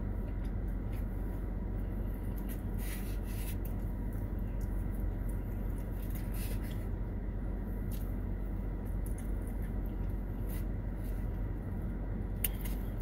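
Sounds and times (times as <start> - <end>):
air-conditioning fan: 0.0 - 13.0
car engine humming: 0.0 - 13.0.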